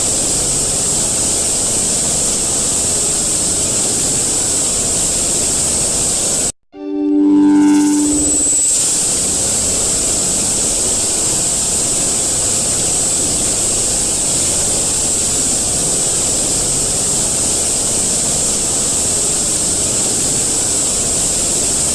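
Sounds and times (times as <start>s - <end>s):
loud static hiss: 0.0s - 6.5s, 7.7s - 21.9s.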